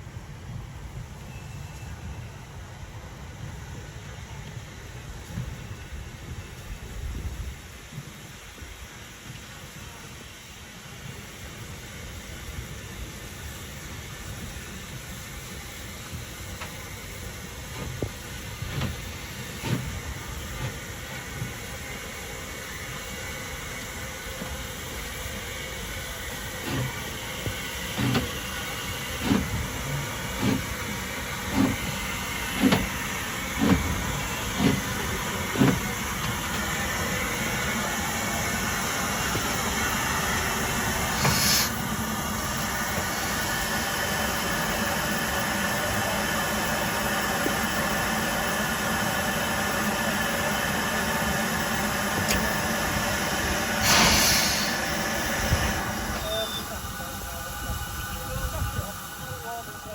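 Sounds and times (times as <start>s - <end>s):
locomotive running noise: 0.0s - 59.9s
steam locomotive exhaust beats: 0.0s - 59.9s
sharp hiss of steam: 3.0s - 59.9s.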